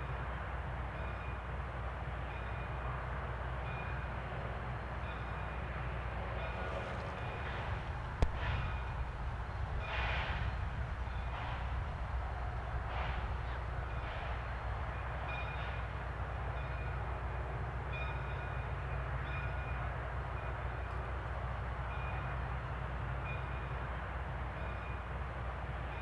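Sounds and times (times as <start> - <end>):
low locomotive rumble: 0.0 - 26.0
steam locomotive chuffs: 0.0 - 26.0.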